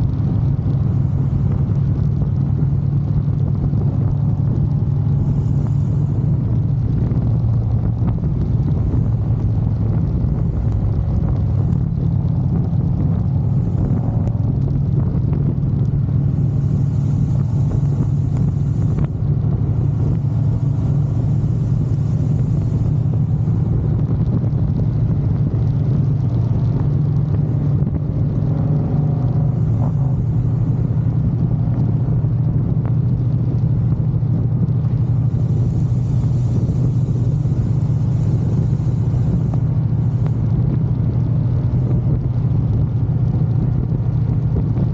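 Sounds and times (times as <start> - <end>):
motorcycle engines rumbling: 0.0 - 44.9.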